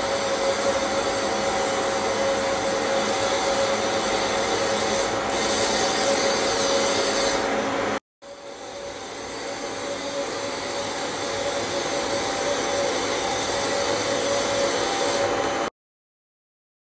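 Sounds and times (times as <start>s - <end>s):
dust extraction machine whining: 0.0s - 15.7s.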